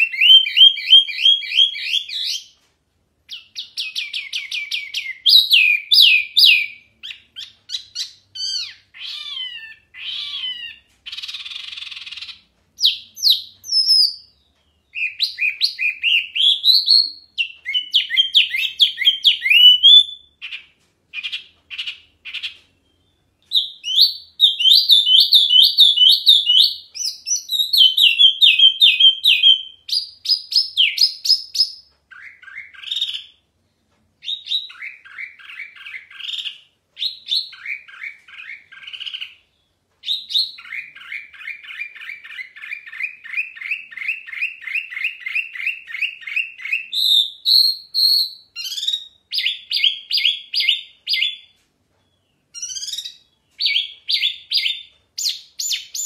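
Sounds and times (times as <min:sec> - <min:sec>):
bird singing trills: 0:03.3 - 0:33.4, 0:34.2 - 0:56.0.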